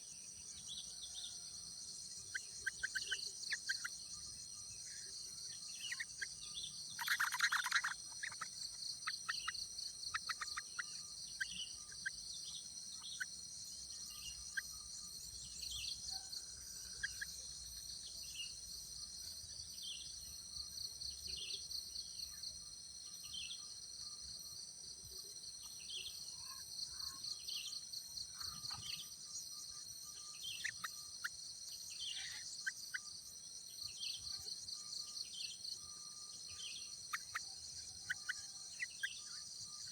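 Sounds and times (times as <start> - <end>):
insect chorus: 0.0 - 39.9
bird chirps: 2.0 - 24.4, 25.1 - 39.9.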